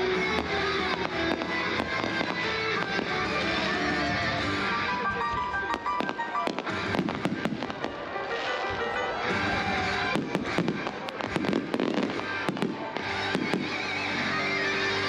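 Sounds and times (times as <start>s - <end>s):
fireworks bangs and crackles: 0.0s - 15.0s
music: 0.0s - 15.0s.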